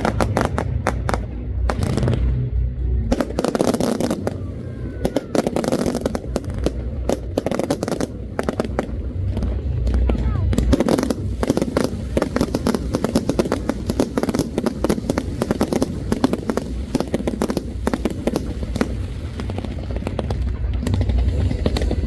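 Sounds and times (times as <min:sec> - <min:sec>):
fireworks bangs and crackles: 0:00.0 - 0:22.0
low rumble: 0:00.0 - 0:22.0.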